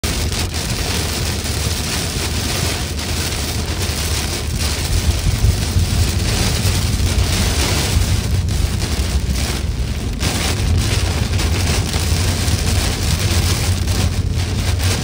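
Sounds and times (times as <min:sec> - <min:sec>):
car rumbling on wet road: 0:00.0 - 0:15.0
heavy rain on car roof: 0:00.0 - 0:15.0.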